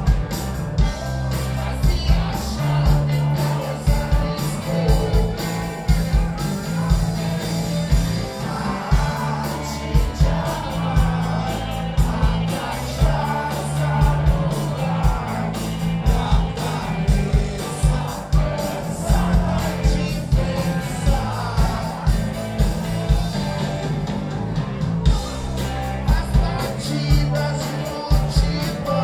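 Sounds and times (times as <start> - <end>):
person singing lead vocal: 0.0 - 23.7, 25.0 - 29.0
bass guitar: 0.0 - 29.0
electric guitars: 0.0 - 29.0
steady drum beat: 0.0 - 29.0.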